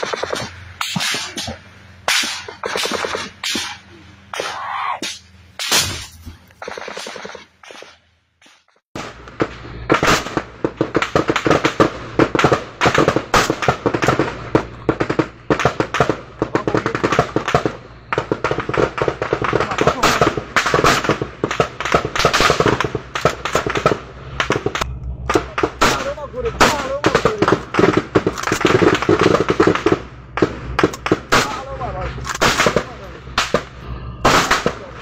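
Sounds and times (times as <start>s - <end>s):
rapid rifle gunfire: 0.0s - 35.0s.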